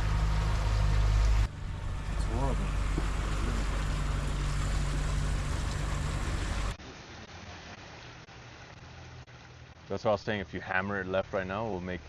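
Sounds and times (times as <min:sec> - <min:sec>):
boat motor humming: 0:00.0 - 0:09.9
water noise: 0:00.0 - 0:12.0
wind: 0:00.0 - 0:12.0.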